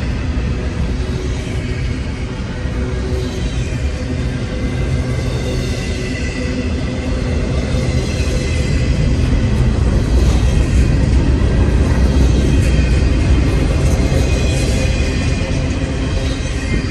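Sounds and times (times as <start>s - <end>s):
freight train wheels rumbling: 0.0s - 16.9s.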